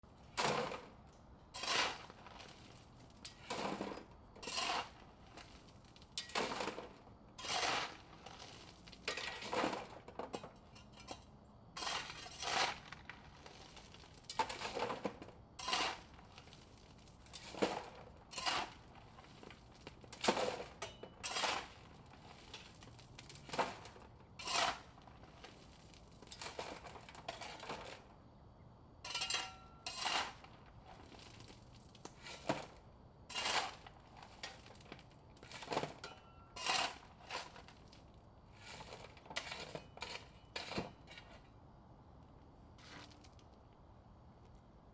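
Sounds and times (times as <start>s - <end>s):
shovel scooping rocks: 0.3s - 1.0s, 1.6s - 11.2s, 11.8s - 28.0s, 29.1s - 38.0s, 38.6s - 41.4s
stones clattering into wheelbarrow: 0.3s - 28.1s, 29.0s - 41.4s.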